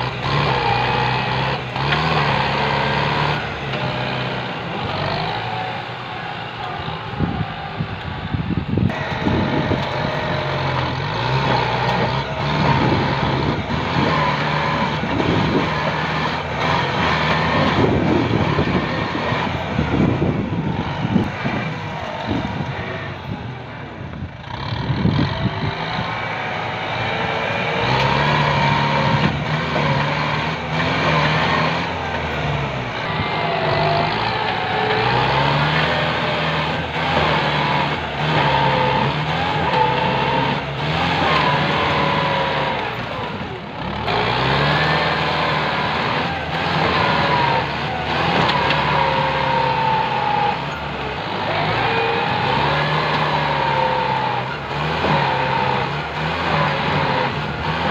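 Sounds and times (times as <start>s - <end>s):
tractor diesel engine under load: 0.0s - 57.9s.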